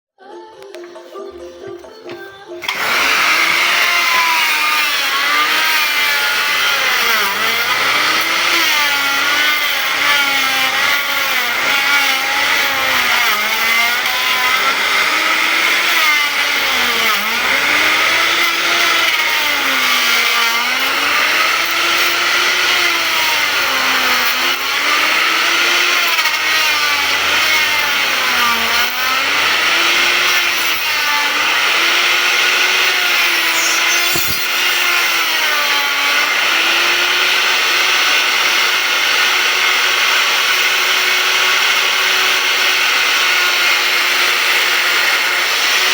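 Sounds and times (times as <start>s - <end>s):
electric hand planer shaving wood: 2.6s - 45.9s.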